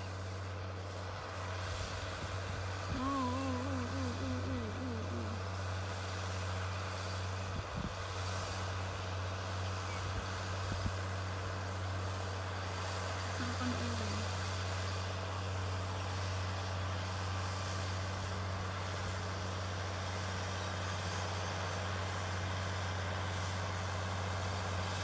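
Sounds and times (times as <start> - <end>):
distant tractor engine: 0.0 - 25.0.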